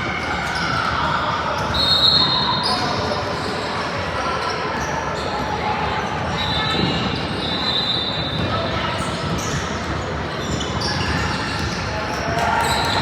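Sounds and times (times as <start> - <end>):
crowd and player voices: 0.0 - 13.0.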